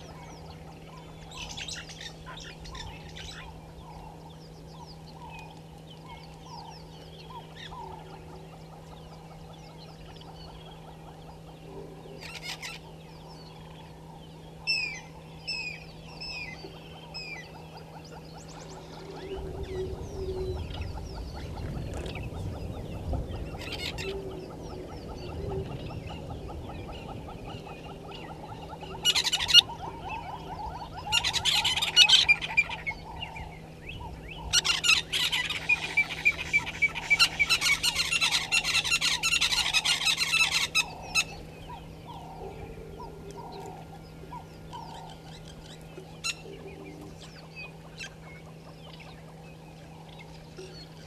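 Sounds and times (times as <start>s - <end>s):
faint birdsong: 0.0s - 51.0s
loud rapid bird calls: 0.0s - 51.0s
steady low hum: 0.0s - 51.0s.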